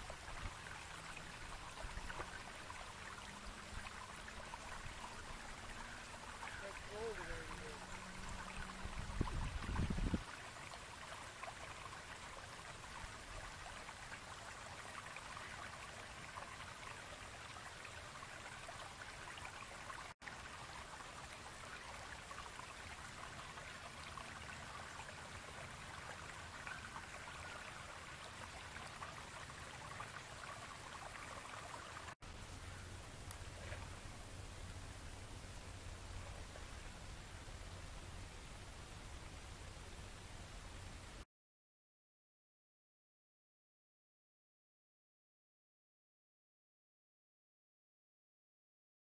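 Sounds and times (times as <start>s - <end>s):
flowing river water: 0.0s - 41.2s.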